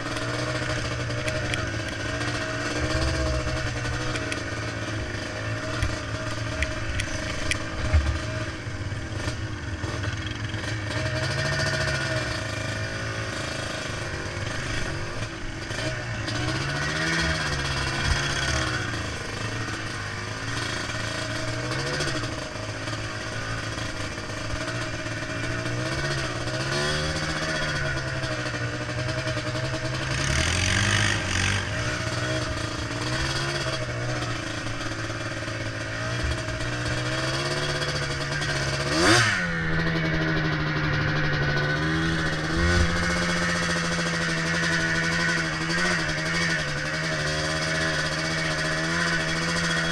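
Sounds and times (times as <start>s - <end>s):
atv engine revving: 0.0s - 49.9s.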